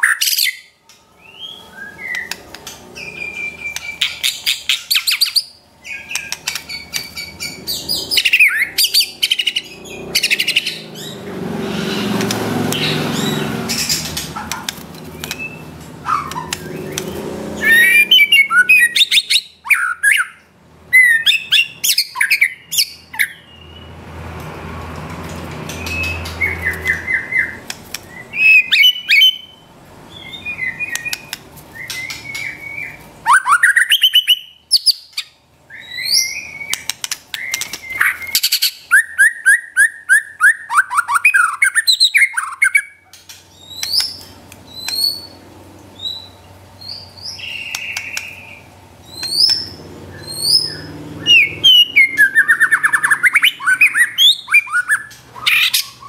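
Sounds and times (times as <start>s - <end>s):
songbird singing whistled notes: 0.0s - 2.4s, 3.0s - 11.2s, 15.1s - 23.9s, 25.7s - 45.4s, 46.0s - 56.0s.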